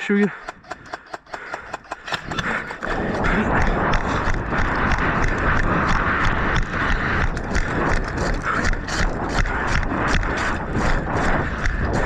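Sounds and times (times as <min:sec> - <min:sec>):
running footsteps: 0:00.3 - 0:12.0.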